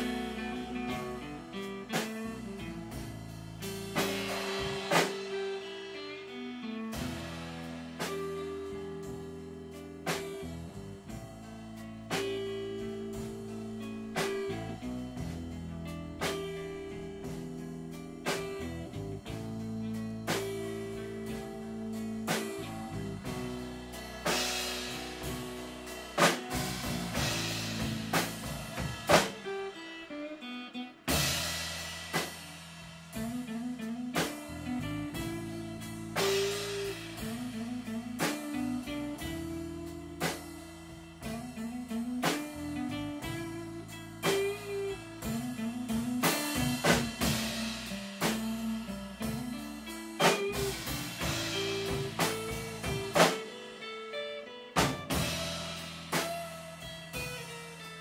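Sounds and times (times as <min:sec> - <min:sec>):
guitar riff: 0:00.0 - 0:32.3, 0:33.1 - 0:58.0
drum kit: 0:00.0 - 0:58.0.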